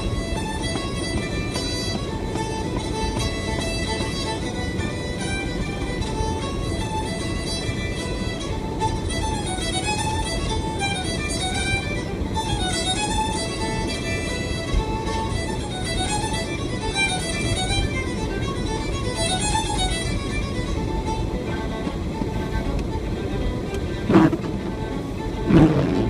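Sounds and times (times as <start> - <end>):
fiddle tune on car stereo: 0.0 - 26.0
low road rumble: 0.0 - 26.0.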